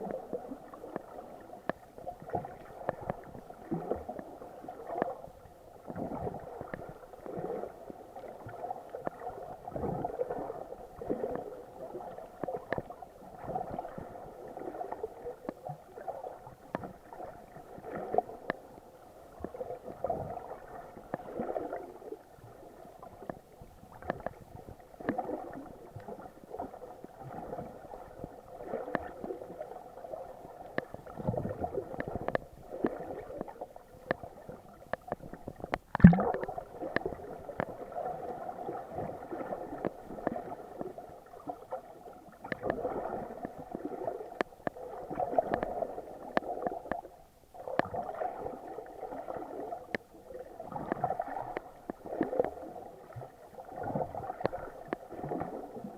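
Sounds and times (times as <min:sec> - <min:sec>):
muffled water sloshing underwater: 0:00.0 - 0:55.9.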